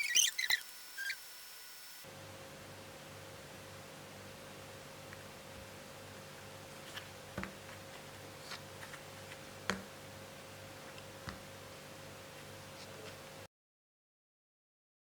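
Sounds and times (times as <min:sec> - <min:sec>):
faint hum: 0:00.0 - 0:13.5.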